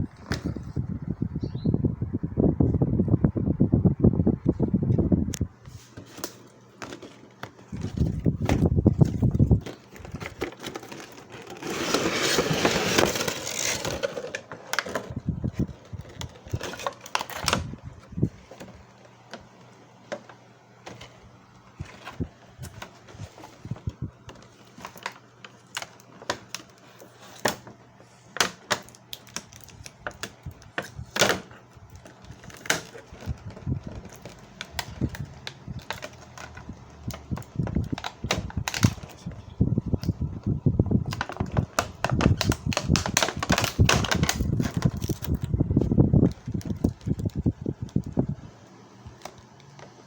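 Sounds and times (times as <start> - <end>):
packaging clicking and rustling: 5.7 - 39.4, 41.0 - 48.4, 49.0 - 50.0.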